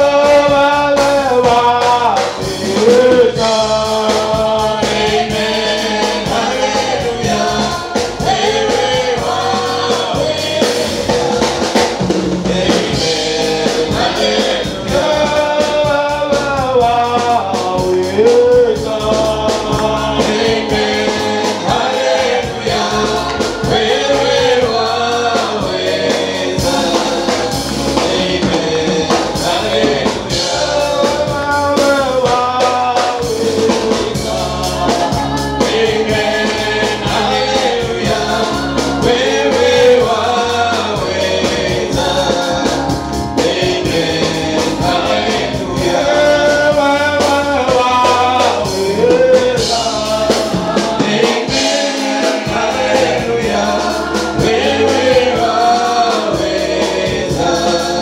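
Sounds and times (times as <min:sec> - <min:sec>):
band with bass and percussion: 0:00.0 - 0:58.0
voices singing gospel together: 0:00.0 - 0:58.0.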